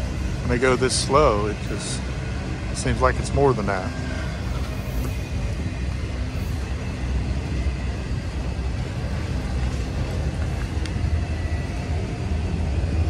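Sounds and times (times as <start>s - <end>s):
steel wheels rumbling on rails: 0.0s - 13.0s.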